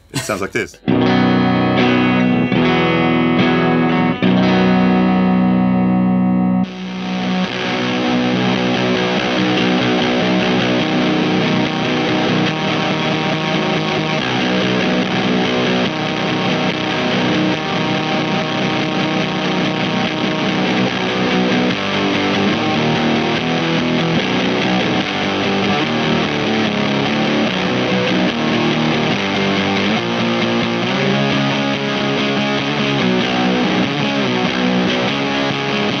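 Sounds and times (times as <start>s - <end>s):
electric guitar low notes and chords: 0.8s - 36.0s.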